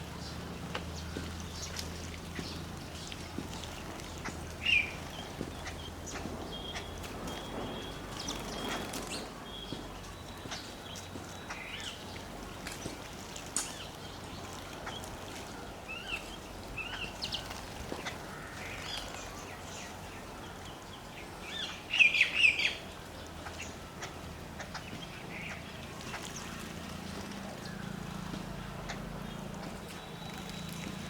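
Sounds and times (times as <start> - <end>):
sparrows chirping: 0.0 - 31.0.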